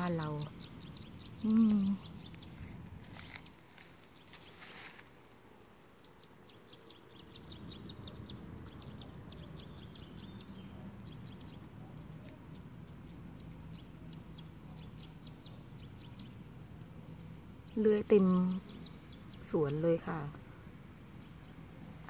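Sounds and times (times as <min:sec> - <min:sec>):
birds chirping: 0:00.0 - 0:05.4, 0:06.0 - 0:20.3
faint high whine: 0:00.0 - 0:22.0.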